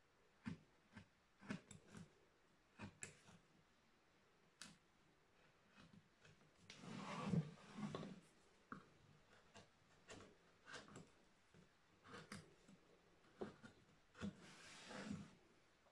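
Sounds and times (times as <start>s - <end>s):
knife carving wood: 0.3s - 3.5s, 5.4s - 15.4s.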